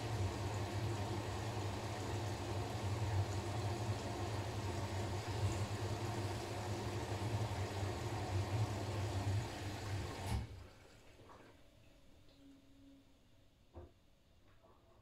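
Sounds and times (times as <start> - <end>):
washing machine humming: 0.0 - 12.9.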